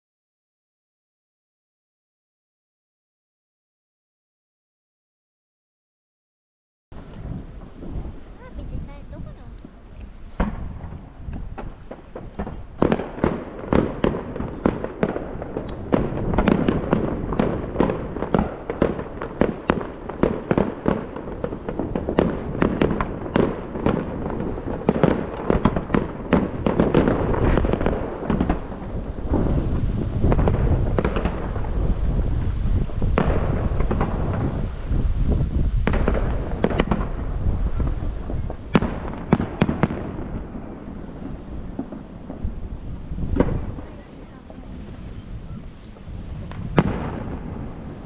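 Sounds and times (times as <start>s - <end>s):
distant booms echoing: 7.0s - 48.0s
fireworks bangs and crackles: 7.0s - 48.0s.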